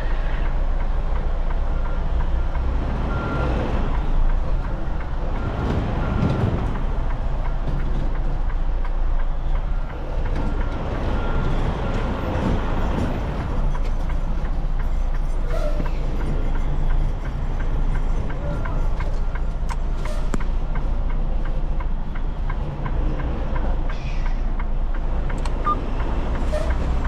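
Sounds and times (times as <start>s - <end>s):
diesel truck engine rumbling: 0.0s - 27.0s.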